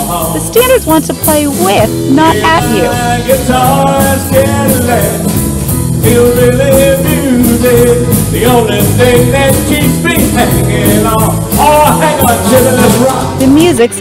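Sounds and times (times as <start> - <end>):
man singing: 0.0 - 0.7, 2.1 - 13.6
rock and roll band playing: 0.0 - 14.0.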